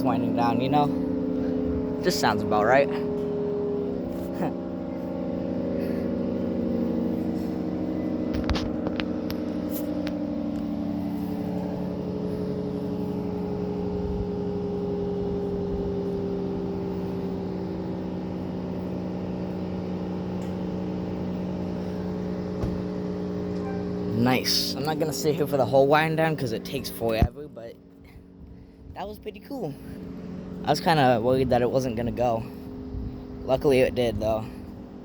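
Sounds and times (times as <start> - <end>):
warning siren winding down: 0.0 - 35.0.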